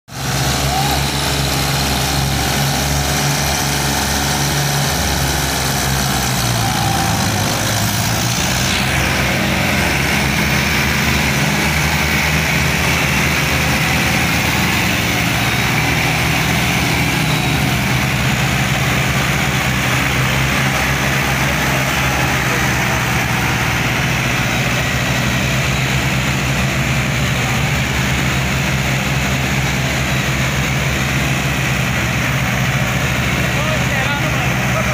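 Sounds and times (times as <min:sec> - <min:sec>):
diesel tractor engines running: 0:00.1 - 0:34.9.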